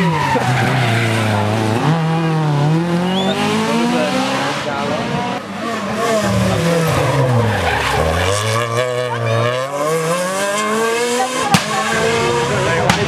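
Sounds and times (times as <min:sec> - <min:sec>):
rally car engine passing: 0:00.0 - 0:13.0.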